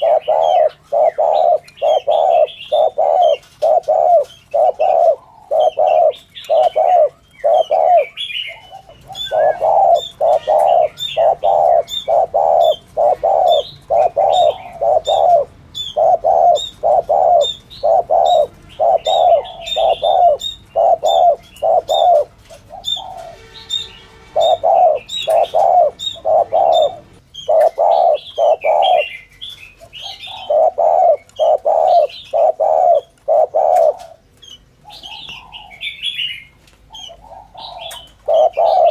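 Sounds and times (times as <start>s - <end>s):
dove cooing: 0.0s - 23.8s, 24.4s - 38.9s
small birds chirping: 0.0s - 38.9s.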